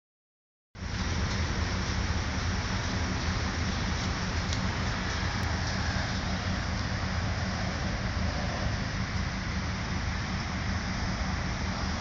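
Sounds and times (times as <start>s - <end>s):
vehicle rumble: 0.8s - 12.0s.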